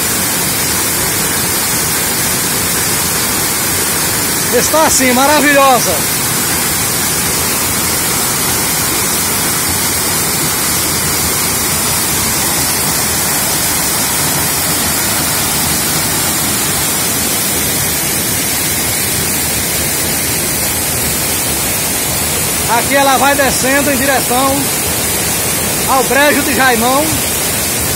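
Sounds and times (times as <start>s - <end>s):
waterfall rushing onto rock: 0.0s - 27.9s.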